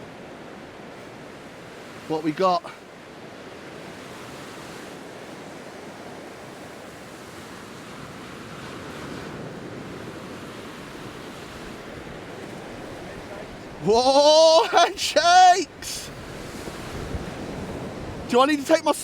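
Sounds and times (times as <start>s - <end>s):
ocean surf washing up beach: 0.0s - 19.0s.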